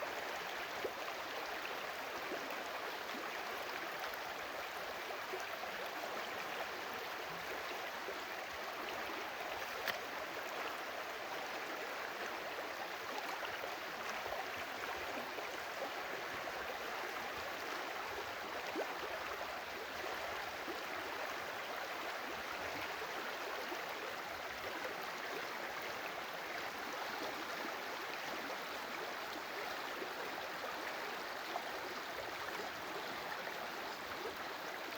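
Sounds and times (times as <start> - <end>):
stream of water flowing: 0.0 - 34.9.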